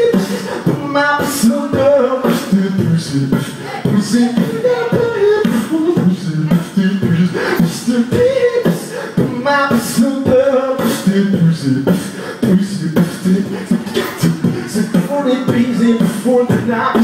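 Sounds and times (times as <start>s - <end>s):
man beatboxing: 0.0s - 17.0s.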